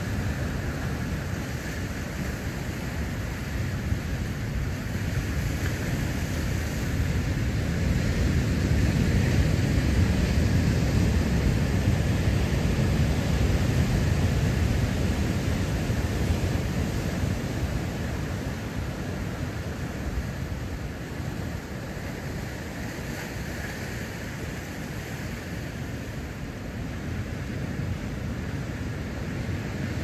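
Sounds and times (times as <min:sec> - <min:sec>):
surf breaking on rocky shore: 0:00.0 - 0:30.0.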